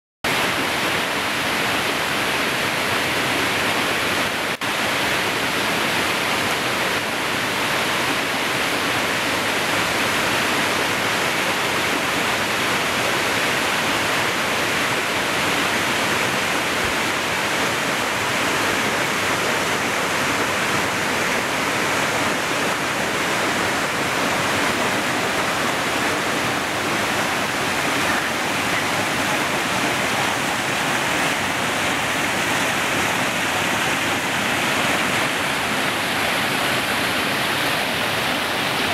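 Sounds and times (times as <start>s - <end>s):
waterfall splashing over rocks: 0.3s - 38.9s.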